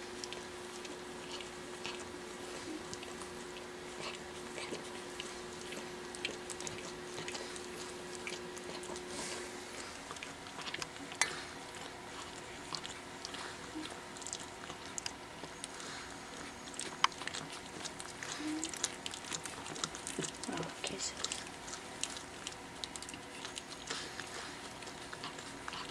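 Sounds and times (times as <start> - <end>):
puppies gnawing wet smacking: 0.0 - 25.9.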